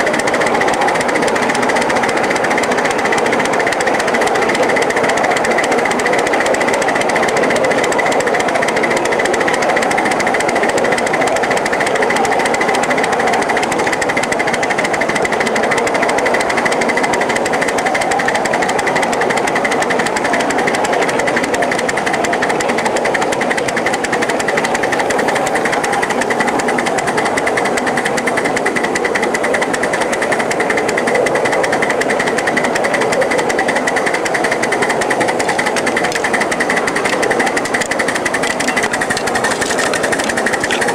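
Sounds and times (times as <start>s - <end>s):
steam locomotive chuffing: 0.0s - 40.9s
wheels clattering on track: 0.0s - 40.9s.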